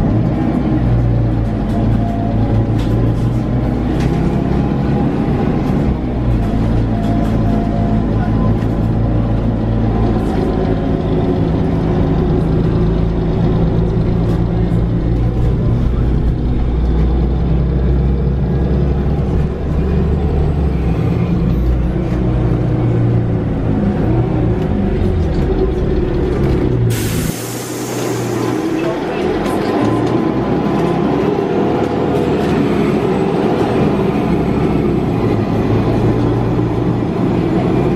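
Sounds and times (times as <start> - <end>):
bus engine running: 0.0 - 37.9.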